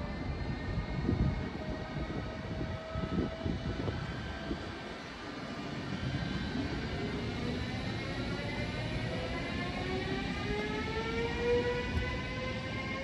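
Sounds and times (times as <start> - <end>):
electric locomotive whining tones: 0.0 - 13.0
train rumble: 0.0 - 13.0.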